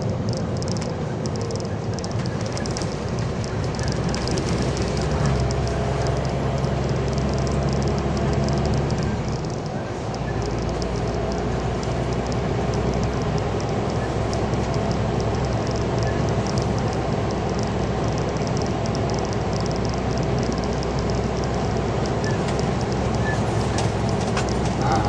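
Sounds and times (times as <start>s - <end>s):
lorry engine hum from cab: 0.0s - 25.0s
road and cab noise: 0.0s - 25.0s.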